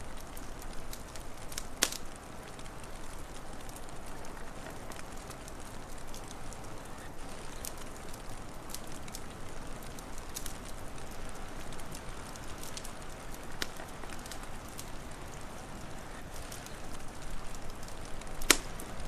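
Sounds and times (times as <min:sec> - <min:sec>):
steady hiss: 0:00.0 - 0:19.0
wood fire crackling and popping: 0:00.0 - 0:19.0.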